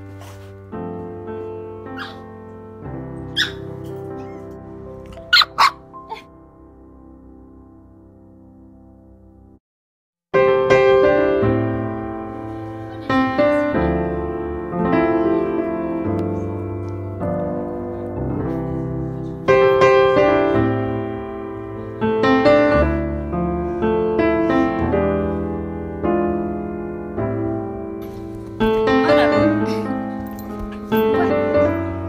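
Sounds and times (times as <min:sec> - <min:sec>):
piano music: 0:00.0 - 0:09.6, 0:10.3 - 0:32.0.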